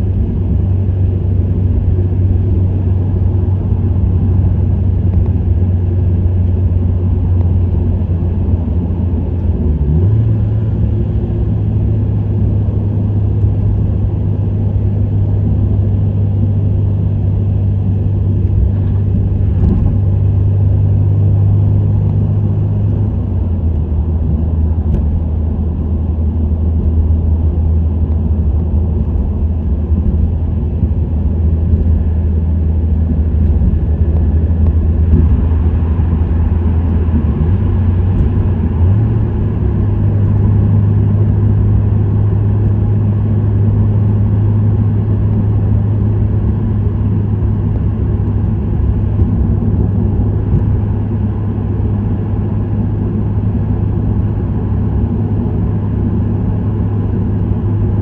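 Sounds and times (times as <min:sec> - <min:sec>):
car exhaust drone: 0:00.0 - 0:58.0
road noise: 0:00.0 - 0:58.0.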